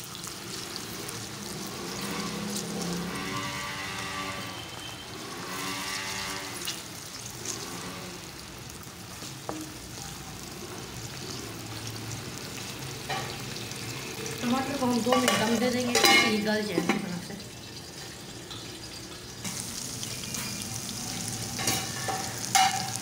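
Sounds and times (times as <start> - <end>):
tomatoes sizzling in hot oil: 0.0 - 23.0.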